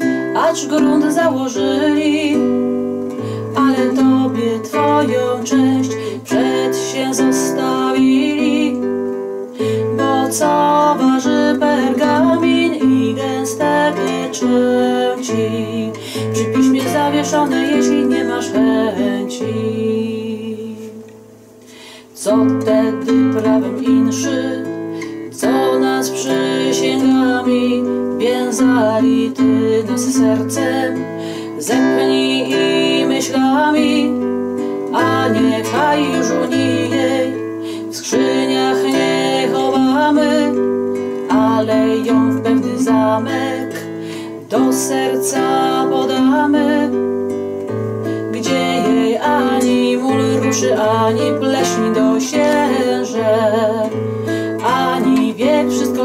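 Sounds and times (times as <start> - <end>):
classical guitar playing: 0.0 - 56.0.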